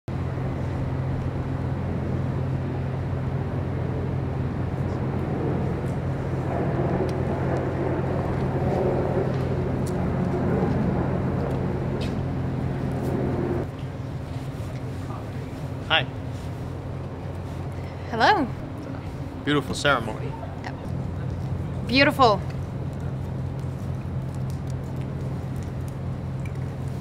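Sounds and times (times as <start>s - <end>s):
outdoor low rumble: 0.1s - 27.0s.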